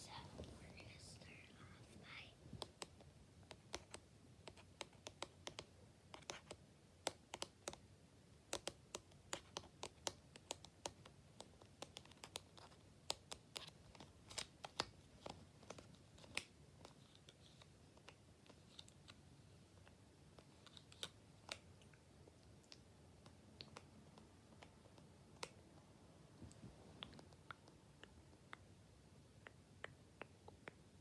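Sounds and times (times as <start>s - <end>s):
light irregular clicks and taps: 0.0s - 19.2s, 19.8s - 31.0s.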